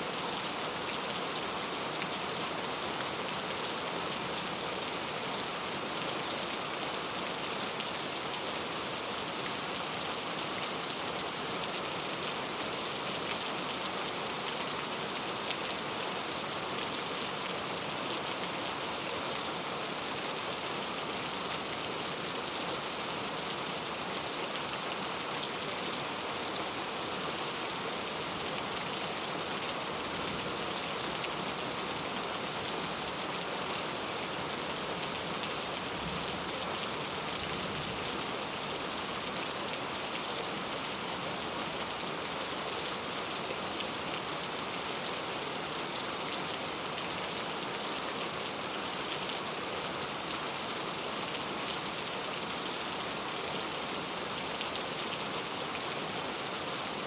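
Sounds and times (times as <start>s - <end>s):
steady rain on a road: 0.0s - 57.0s.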